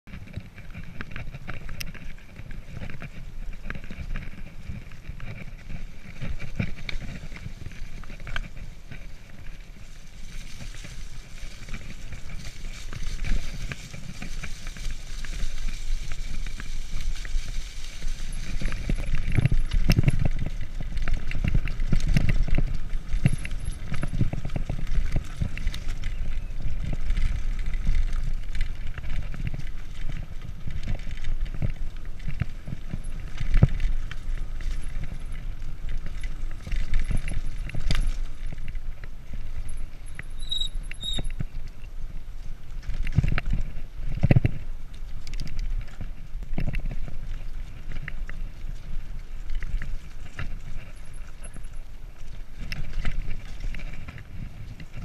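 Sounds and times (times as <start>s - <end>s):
bike rattling over bumps: 0.1s - 55.0s
tyres crunching over dirt: 0.1s - 55.0s.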